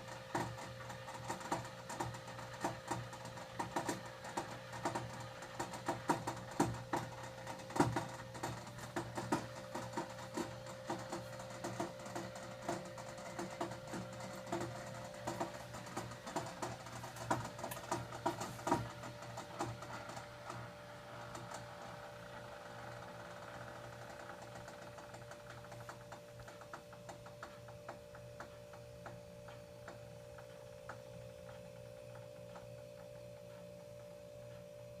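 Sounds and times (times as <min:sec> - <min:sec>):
water cooler humming: 0:00.0 - 0:35.0.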